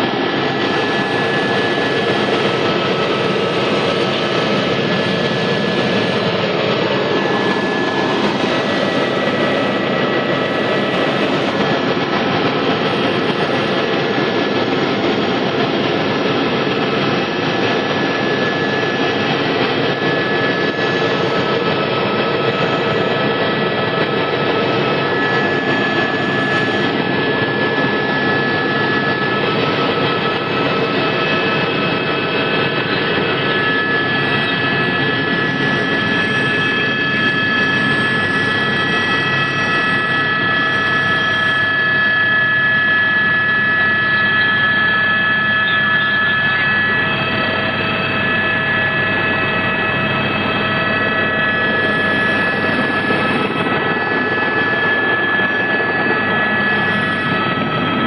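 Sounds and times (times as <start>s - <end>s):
helicopter engine rush: 0.0s - 58.0s
high turbine whine: 0.0s - 58.0s.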